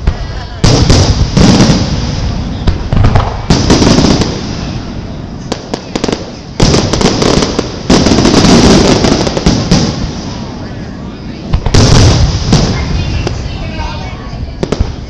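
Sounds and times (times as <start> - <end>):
firework booms echoing: 0.0 - 10.6, 11.5 - 15.0.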